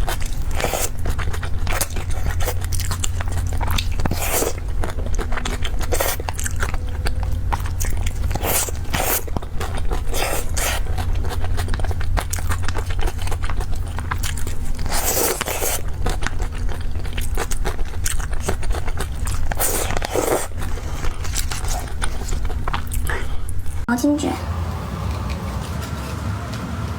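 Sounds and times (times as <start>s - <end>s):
person chewing cake: 0.0s - 23.9s
steady low hum: 0.0s - 26.9s.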